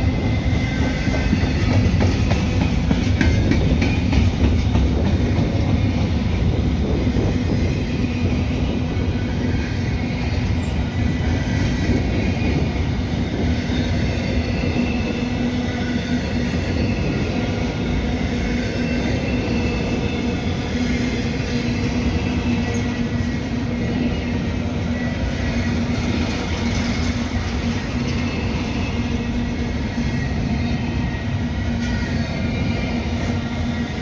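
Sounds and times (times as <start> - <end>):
freight train rumbling on rails: 0.0 - 34.0.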